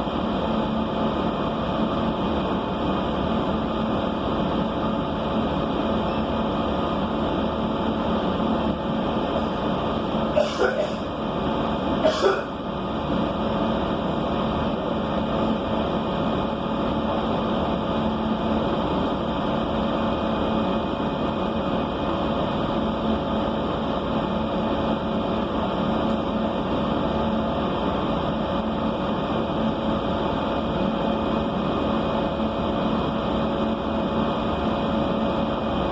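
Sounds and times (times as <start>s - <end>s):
bus interior hum: 0.0s - 35.9s.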